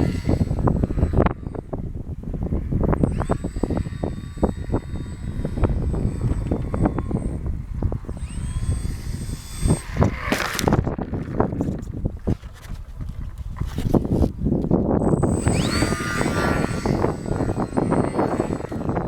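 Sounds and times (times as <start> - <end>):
model plane motor whine: 0.0 - 19.0
wind buffeting microphone: 0.0 - 19.0.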